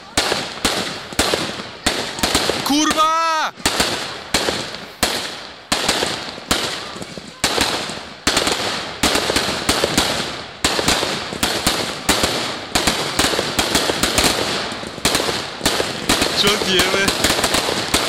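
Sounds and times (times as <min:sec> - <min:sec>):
fireworks bangs and crackle: 0:00.0 - 0:18.0.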